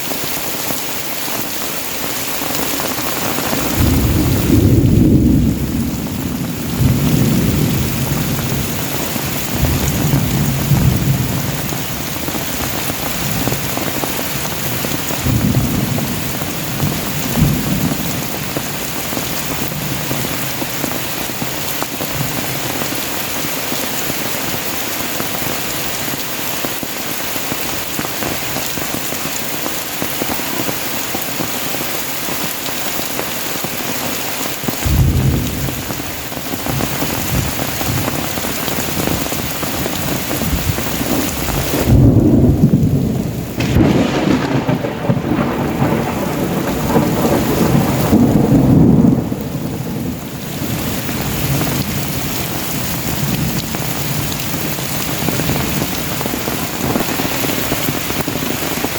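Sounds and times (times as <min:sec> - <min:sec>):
heavy rain hissing: 0:00.0 - 0:58.9
thunder rumbling: 0:01.4 - 0:26.6, 0:34.4 - 0:58.9.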